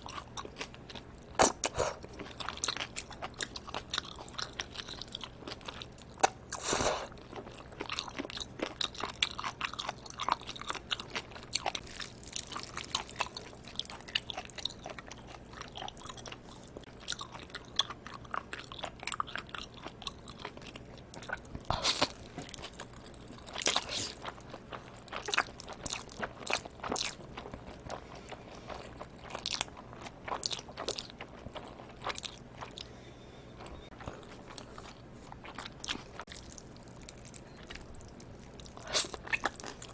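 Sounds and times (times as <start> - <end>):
chewing and biting: 0.0 - 32.9, 33.6 - 39.9.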